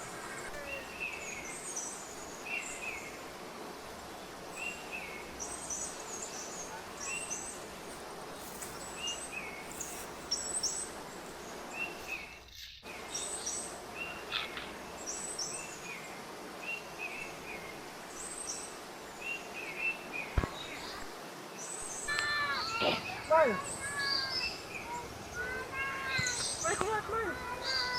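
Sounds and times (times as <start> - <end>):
bird chirping: 0.0 - 3.3, 4.1 - 27.9
outdoor background hiss: 0.0 - 27.9.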